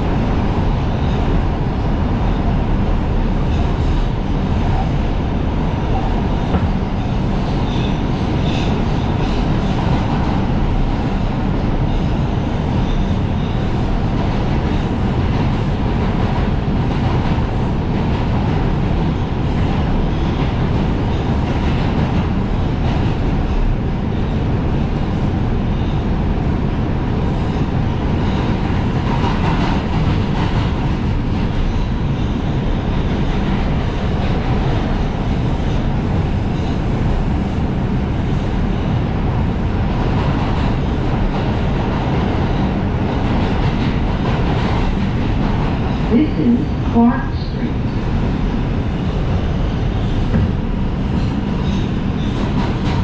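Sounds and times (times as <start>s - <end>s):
subway train rumbling in tunnel: 0.0s - 53.0s.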